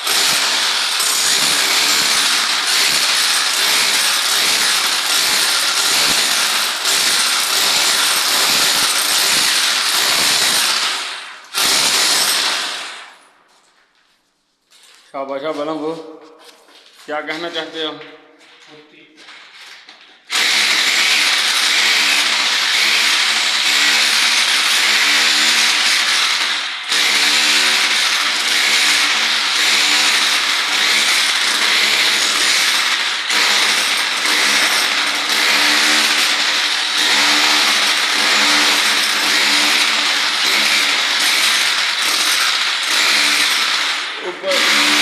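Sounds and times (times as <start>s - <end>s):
power tool motor pulsing: 0.0s - 13.0s, 20.3s - 45.0s.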